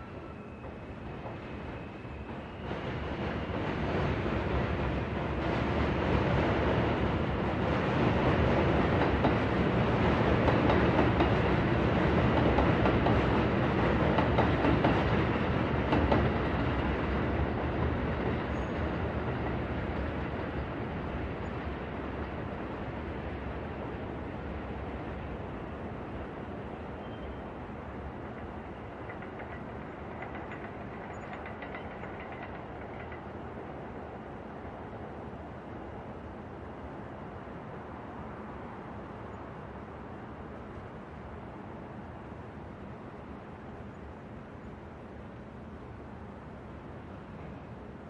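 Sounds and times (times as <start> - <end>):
city night ambience: 0.0 - 48.0
train rumbling past: 0.0 - 48.0.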